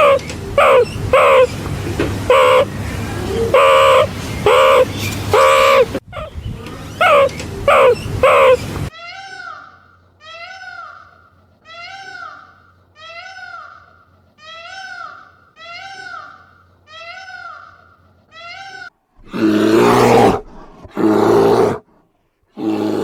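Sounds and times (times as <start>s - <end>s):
animal crying: 0.0s - 1.6s, 2.3s - 6.4s, 7.0s - 21.8s, 22.6s - 23.0s
loud harsh animal call: 0.0s - 1.6s, 2.3s - 21.8s, 22.6s - 23.0s.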